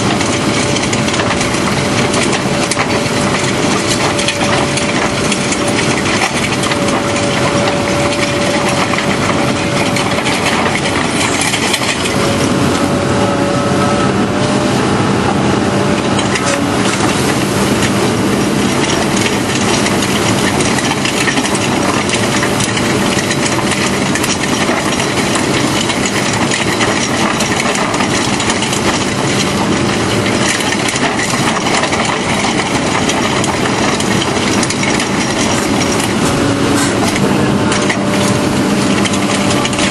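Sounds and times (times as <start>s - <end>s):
drum cutter grinding rock: 0.0s - 14.5s, 15.8s - 39.9s
engine humming: 0.0s - 39.9s.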